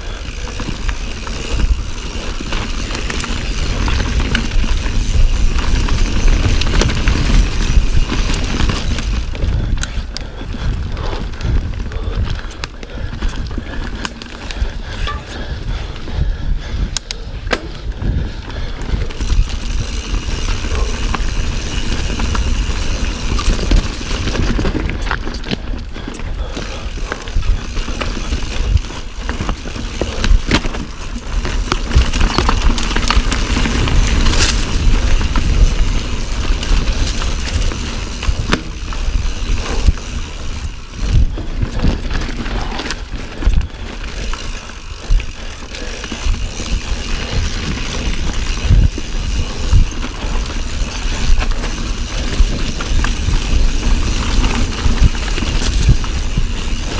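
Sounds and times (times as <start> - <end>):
bike rattling over bumps: 0.0 - 56.9
wind rumbling on microphone: 0.0 - 56.9.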